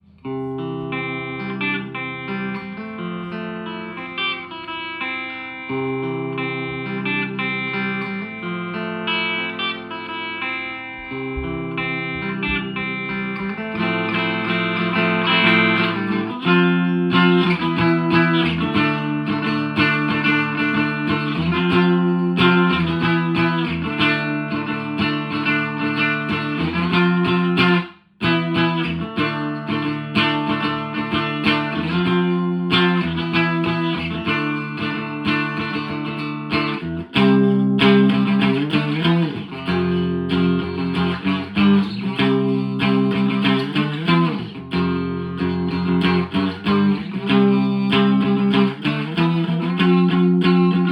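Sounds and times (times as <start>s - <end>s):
bent guitar notes: 0.0s - 50.9s
electric guitar chords through amp: 0.0s - 50.9s.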